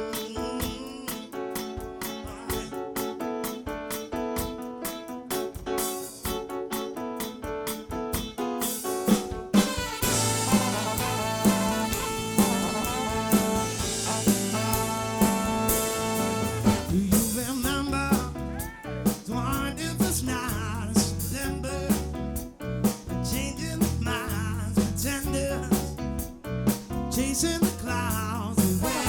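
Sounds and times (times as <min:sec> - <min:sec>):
drum kit beat: 0:00.0 - 0:29.0
soul band playing: 0:00.0 - 0:29.0.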